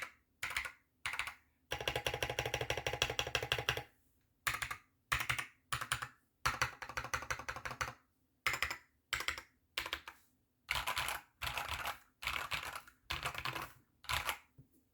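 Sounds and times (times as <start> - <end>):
mechanical keyboard typing: 0.0 - 3.8, 4.5 - 10.1, 10.7 - 14.4.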